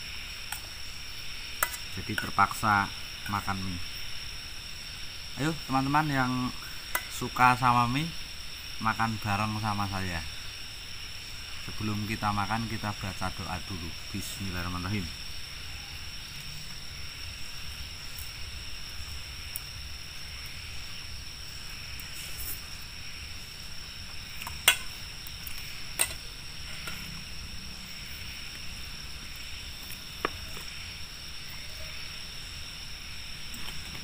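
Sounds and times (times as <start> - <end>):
night insects chirping: 0.0 - 34.0.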